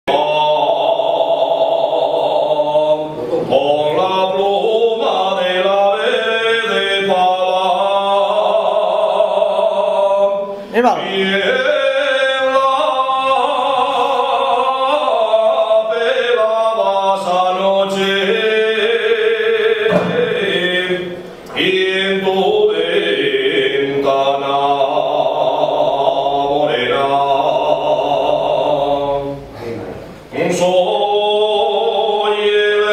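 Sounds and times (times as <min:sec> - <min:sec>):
man singing unaccompanied: 0:00.0 - 0:29.6, 0:30.2 - 0:32.9.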